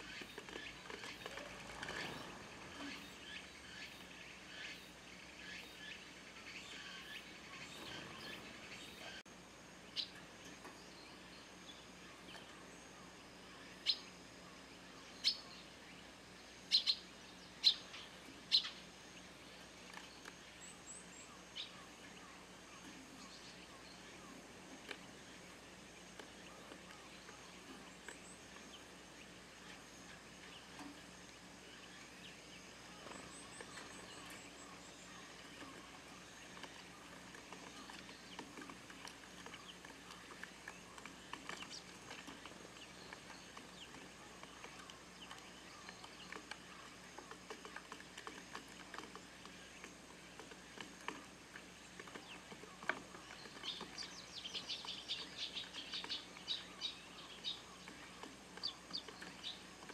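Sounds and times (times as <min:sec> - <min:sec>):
birds pecking at feed: 0:00.0 - 0:09.2, 0:15.7 - 0:59.9.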